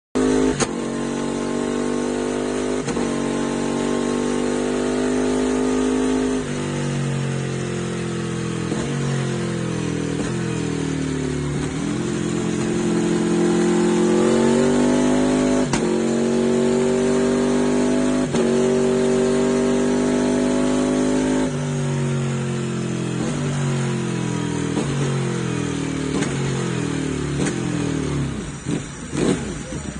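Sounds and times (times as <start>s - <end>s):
motorcycle engine revving: 0.2s - 29.9s.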